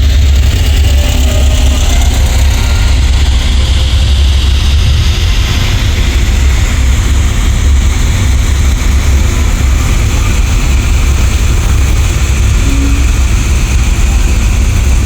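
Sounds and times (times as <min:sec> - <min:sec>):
car engines idling: 0:00.0 - 0:15.0.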